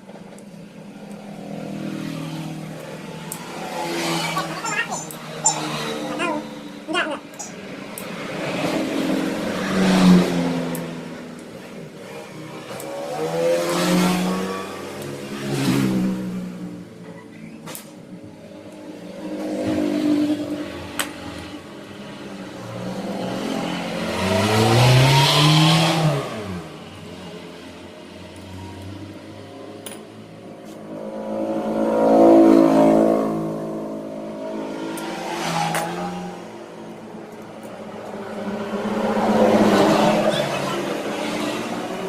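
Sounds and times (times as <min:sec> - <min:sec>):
vehicle engines rising and falling: 0:00.0 - 0:42.0.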